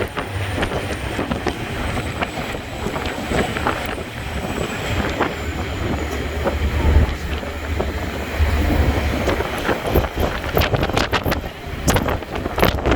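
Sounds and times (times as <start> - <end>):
heavy low rumble: 0.0 - 12.9
sharp clacks: 0.0 - 12.9
train wheels clattering: 0.0 - 12.9.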